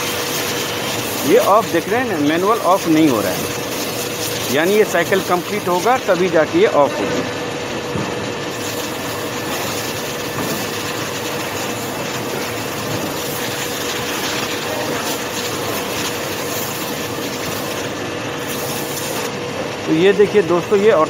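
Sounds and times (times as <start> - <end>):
mechanical whir: 0.0 - 21.0.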